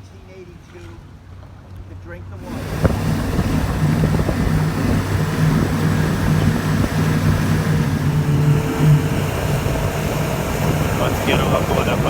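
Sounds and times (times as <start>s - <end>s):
wind: 0.0s - 12.0s
water noise: 1.6s - 12.0s
boat motor humming: 2.2s - 12.0s.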